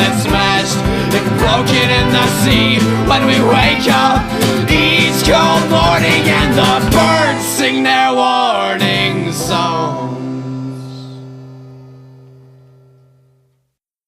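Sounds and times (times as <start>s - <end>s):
person singing: 0.0s - 11.6s
guitar: 0.0s - 13.7s.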